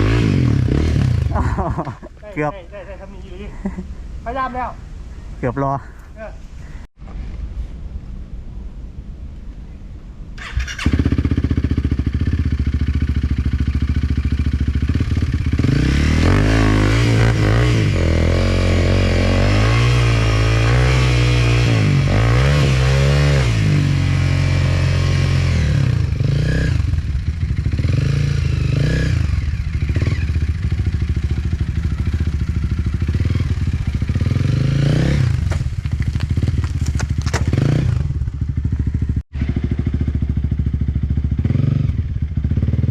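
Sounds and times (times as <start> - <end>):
dirt bike engine revving: 0.0 - 1.9, 10.4 - 42.9.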